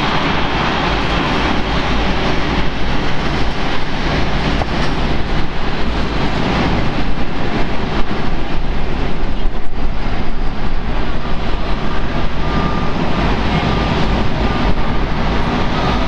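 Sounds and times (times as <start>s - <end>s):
jet aircraft taxiing: 0.0s - 16.0s.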